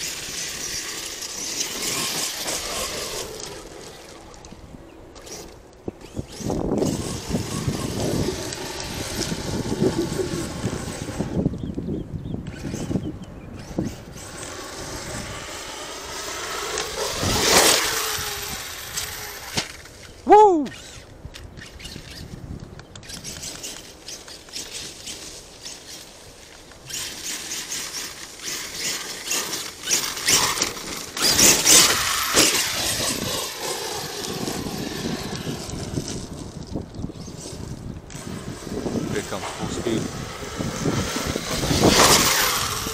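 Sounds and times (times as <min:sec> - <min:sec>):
electric motor whining: 0:00.0 - 0:22.4, 0:26.8 - 0:42.9.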